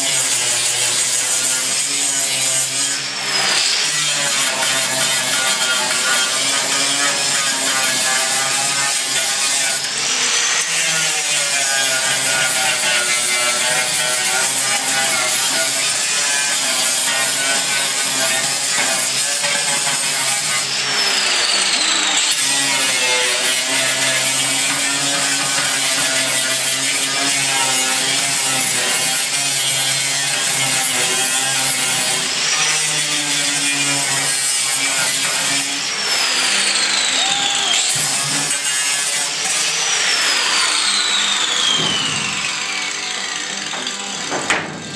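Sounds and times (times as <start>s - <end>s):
angle grinder on sheet steel: 0.0s - 44.9s.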